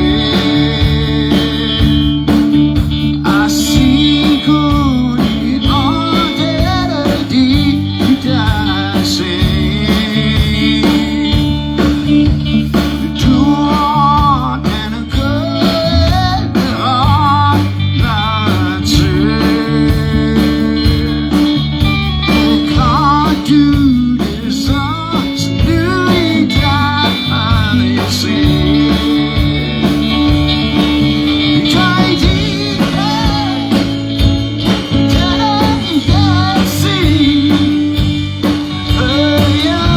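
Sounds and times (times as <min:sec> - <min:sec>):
live blues-rock band: 0:00.0 - 0:39.9.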